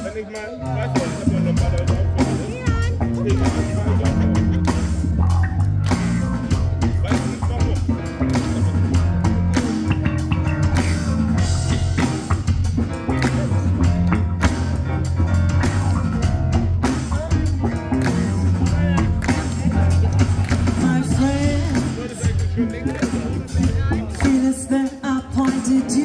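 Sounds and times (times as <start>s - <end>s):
bass line: 0.0s - 26.0s
drum kit: 0.0s - 26.0s
guitar: 0.0s - 26.0s
live rock band playing: 0.0s - 26.0s.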